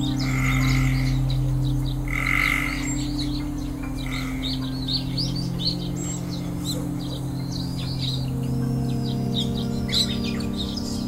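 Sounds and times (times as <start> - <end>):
ambient music drone: 0.0 - 11.0
songbirds chirping: 0.0 - 11.0.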